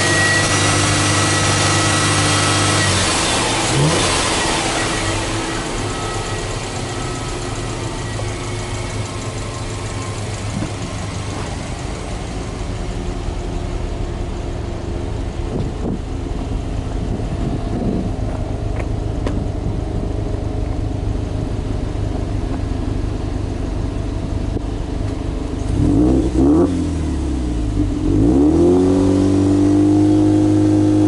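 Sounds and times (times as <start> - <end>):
car engine idling: 0.0 - 28.2.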